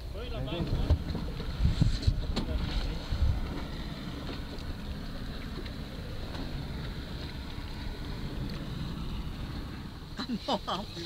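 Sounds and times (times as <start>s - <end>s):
wind noise on microphone: 0.4s - 10.2s.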